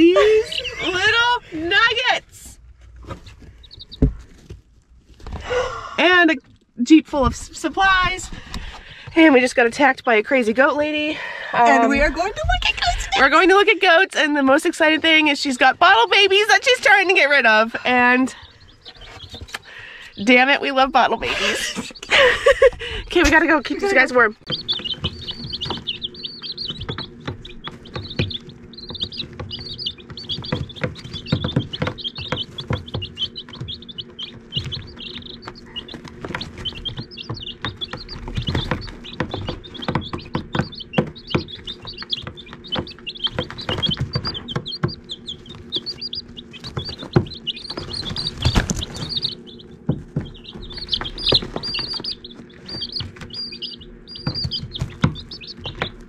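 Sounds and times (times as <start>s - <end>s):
chicks pecking and rustling shavings: 0.0s - 56.0s
chicks peeping: 0.0s - 56.0s.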